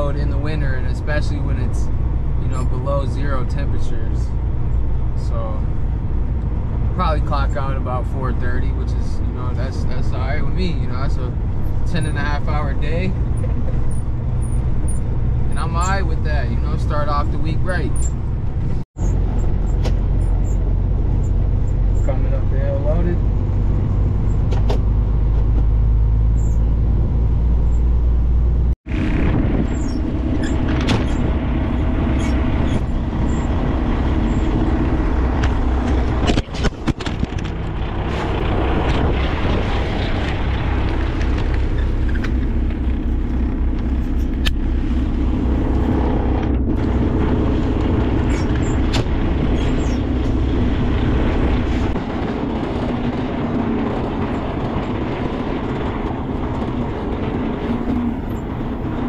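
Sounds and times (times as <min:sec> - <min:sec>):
road noise: 0:00.0 - 0:59.0
truck engine running: 0:00.0 - 0:59.0.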